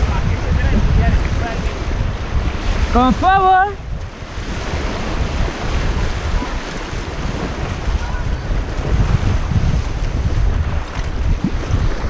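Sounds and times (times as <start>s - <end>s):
river water rushing: 0.0s - 11.1s
wind buffeting microphone: 0.0s - 12.0s.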